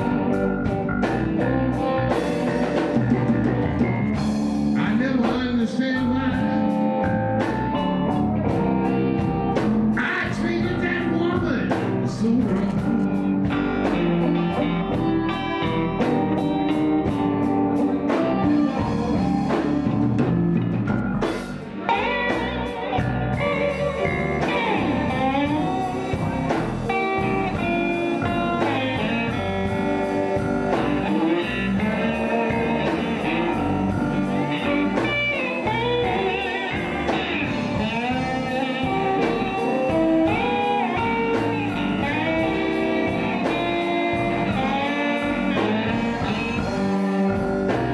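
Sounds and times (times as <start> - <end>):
electric blues band playing: 0.0 - 47.9
electric guitar bending notes: 0.0 - 47.9.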